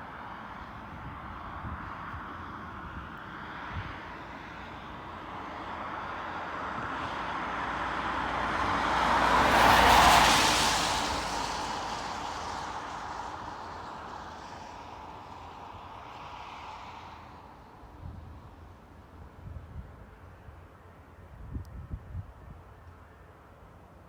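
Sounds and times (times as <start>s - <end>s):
airliner passing by: 0.0s - 20.5s.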